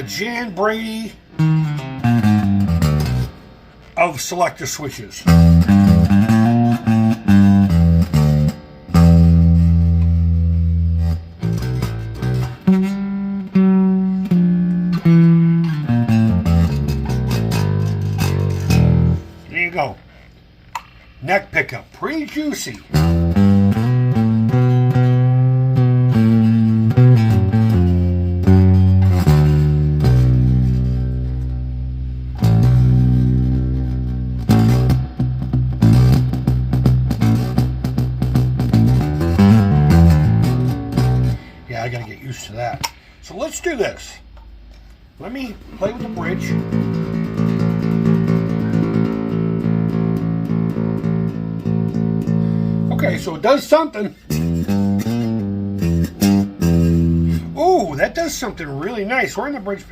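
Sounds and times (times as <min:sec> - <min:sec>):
electric bass guitar notes: 0:00.0 - 0:59.9.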